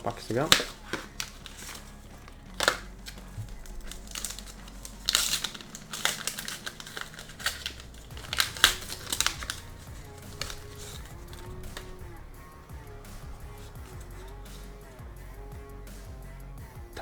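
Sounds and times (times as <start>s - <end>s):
wrapper crinkling and tearing: 0.0s - 15.0s.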